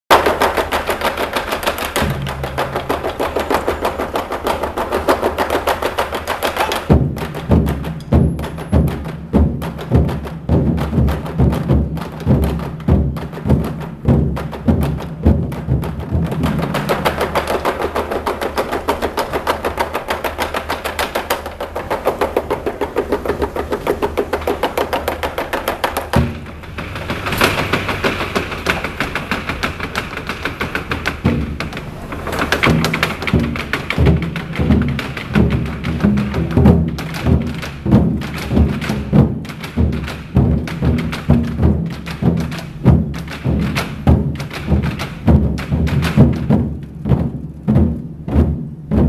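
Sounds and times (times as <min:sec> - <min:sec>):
fast dense drumming: 0:00.1 - 0:49.0
heavy deep drum strikes: 0:02.0 - 0:05.5, 0:06.9 - 0:19.7, 0:21.7 - 0:49.0.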